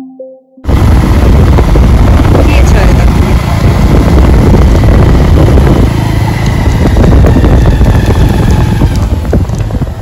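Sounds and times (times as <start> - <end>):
vehicle rumbling: 0.7 - 10.0
wind buffeting microphone: 0.7 - 10.0.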